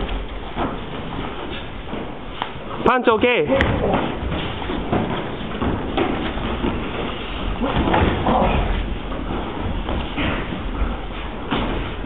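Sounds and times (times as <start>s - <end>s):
bodies thumping on mats: 0.0s - 2.8s, 3.5s - 12.0s.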